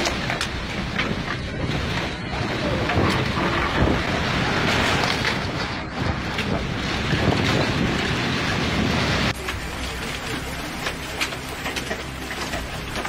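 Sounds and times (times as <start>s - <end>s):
storm wind buffeting microphone: 0.0s - 11.6s.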